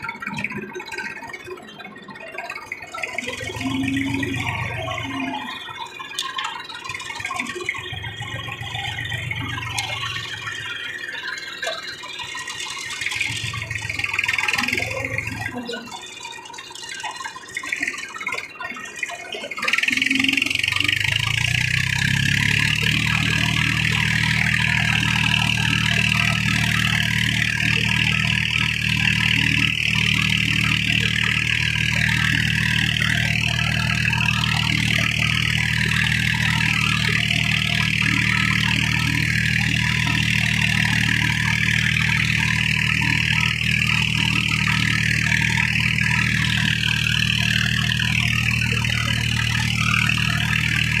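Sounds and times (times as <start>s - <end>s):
tractor diesel engine starting: 0.0s - 51.0s.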